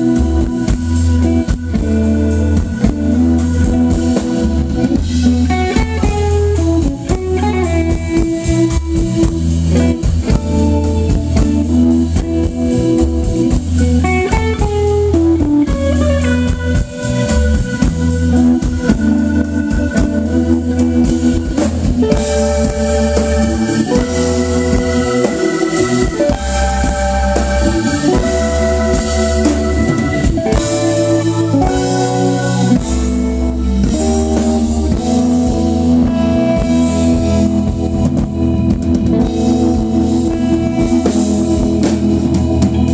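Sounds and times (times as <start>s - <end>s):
drum kit: 0.0s - 42.9s
electric guitar: 0.0s - 42.9s
keyboard sustained chords: 0.0s - 42.9s.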